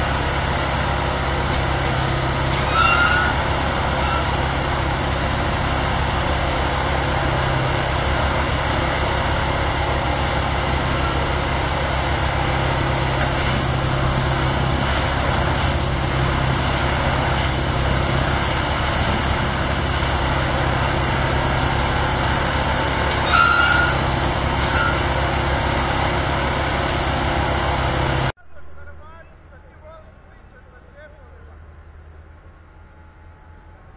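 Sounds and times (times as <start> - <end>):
diesel engine drone: 0.0 - 33.9.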